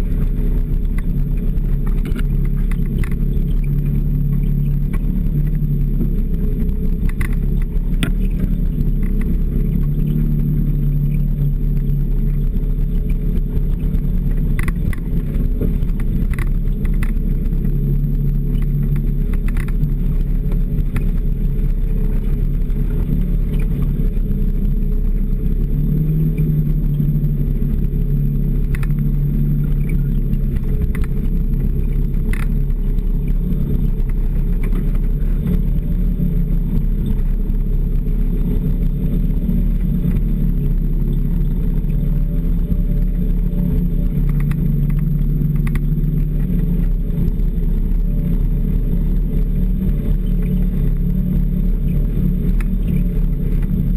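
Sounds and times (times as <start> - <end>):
snowmobile engine running: 0.0 - 53.9
faint clicks: 0.8 - 5.6, 6.6 - 25.6, 27.8 - 38.8, 39.7 - 53.9.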